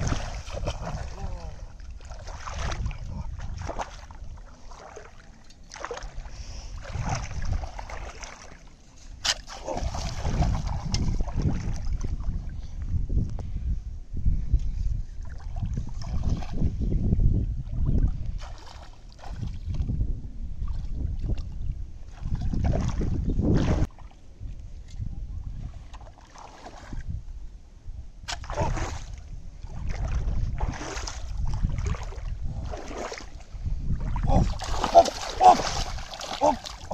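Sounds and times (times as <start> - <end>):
wind buffeting microphone: 0.0 - 4.9, 5.9 - 8.2, 9.1 - 36.9
feet splashing through muddy water: 0.0 - 12.5, 15.2 - 16.6, 17.7 - 19.9, 20.6 - 24.2, 25.6 - 27.1, 28.3 - 36.9.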